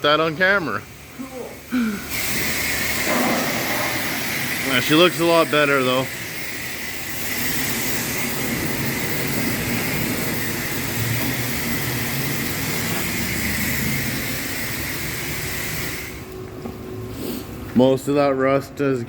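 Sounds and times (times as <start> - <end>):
pressure washer spraying water: 0.0 - 17.7.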